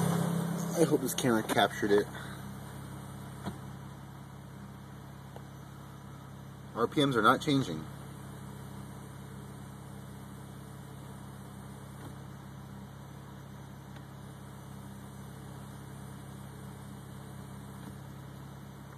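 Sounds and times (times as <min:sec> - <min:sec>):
car engine humming steadily: 0:00.0 - 0:18.9.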